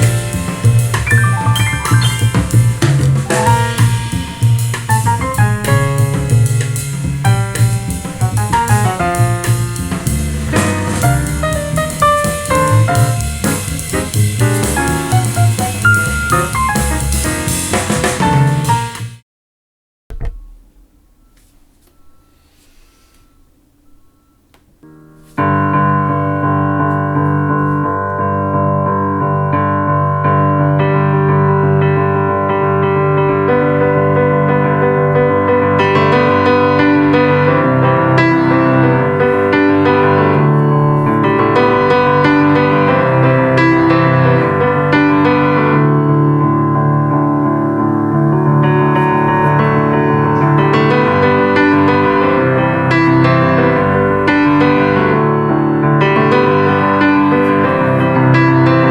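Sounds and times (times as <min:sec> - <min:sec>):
piano music through speaker: 0:00.0 - 0:19.2, 0:23.4 - 0:58.9.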